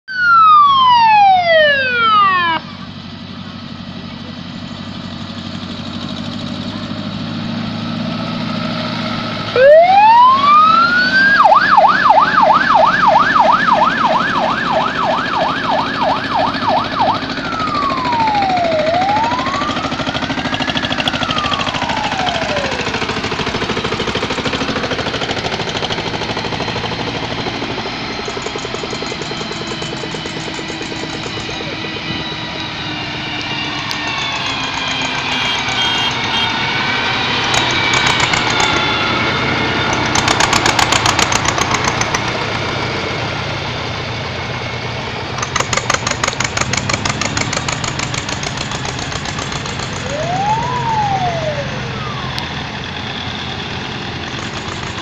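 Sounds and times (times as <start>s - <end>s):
fire engine siren: 0.0s - 55.0s
tractor engines running: 0.1s - 55.0s.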